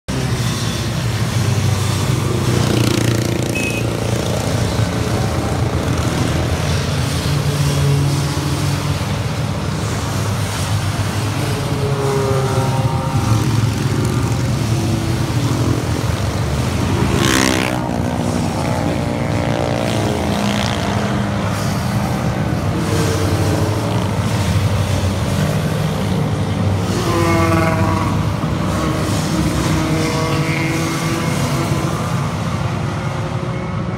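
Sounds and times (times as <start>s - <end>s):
motorcycle engines passing: 0.1s - 33.9s.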